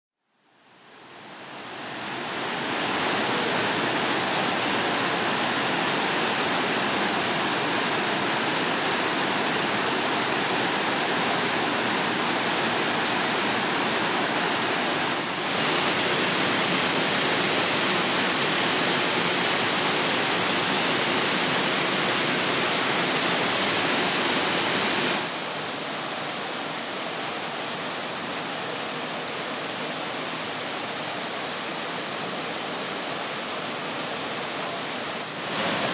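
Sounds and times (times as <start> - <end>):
waterfall rushing: 1.0 - 35.9.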